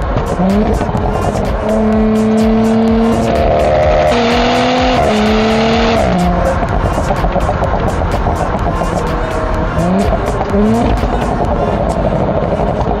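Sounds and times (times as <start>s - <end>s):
car engine running under load: 0.0s - 13.0s
steady low rumble: 0.0s - 13.0s.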